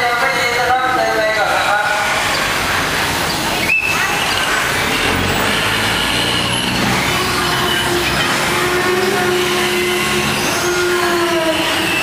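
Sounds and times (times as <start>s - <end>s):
boat engine running: 1.2s - 12.0s.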